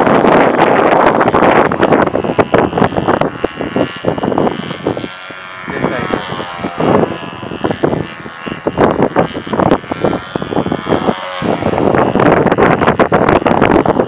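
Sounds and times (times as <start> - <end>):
model aeroplane engine whine: 0.0 - 14.0
wind buffeting microphone: 0.0 - 14.0.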